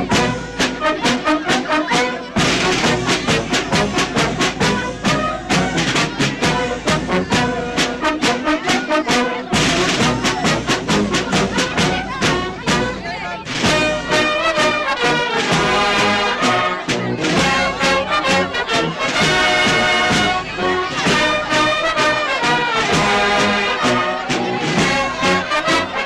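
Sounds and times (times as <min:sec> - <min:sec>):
brass band playing: 0:00.0 - 0:26.0.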